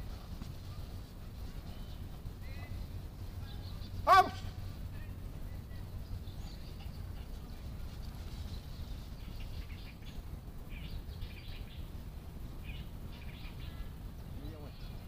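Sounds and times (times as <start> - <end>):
birds chirping: 0.0 - 15.0
low outdoor rumble: 0.0 - 15.0.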